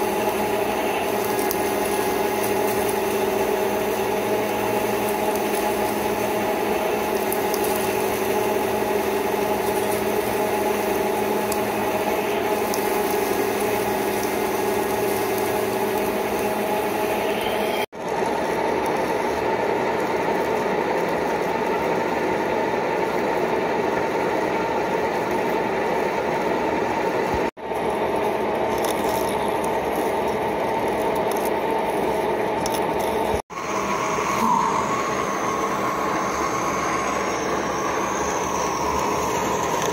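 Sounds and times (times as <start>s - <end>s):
metal lathe whining and rumbling: 0.0s - 39.9s.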